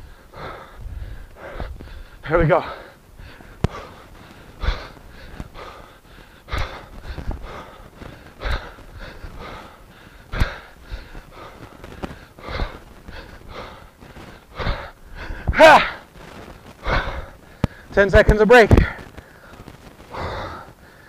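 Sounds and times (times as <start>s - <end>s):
man breathing hard: 0.0s - 16.1s, 16.7s - 17.9s, 18.8s - 21.0s.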